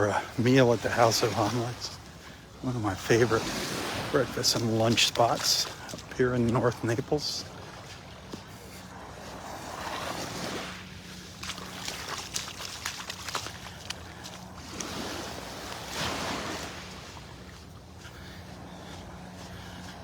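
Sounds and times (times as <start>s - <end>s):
small waves washing on beach: 0.0s - 20.0s.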